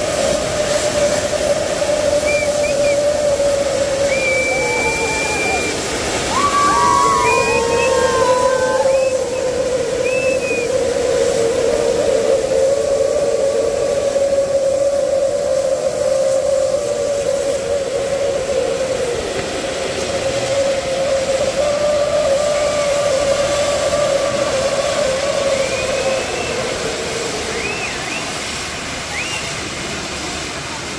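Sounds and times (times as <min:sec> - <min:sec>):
firework fountain hiss: 0:00.0 - 0:30.9
whistle-like drone: 0:00.0 - 0:30.9.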